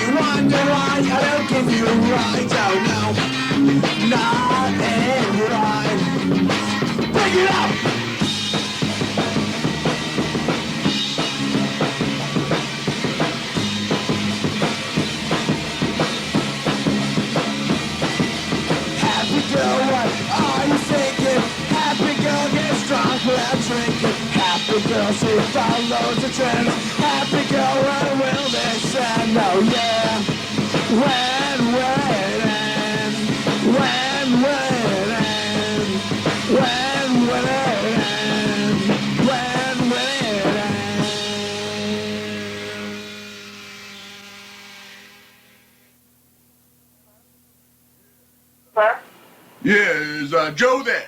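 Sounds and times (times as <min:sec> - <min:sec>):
drum kit with bass drum: 0:00.0 - 0:43.2
guitar and bass rock music: 0:00.0 - 0:43.2.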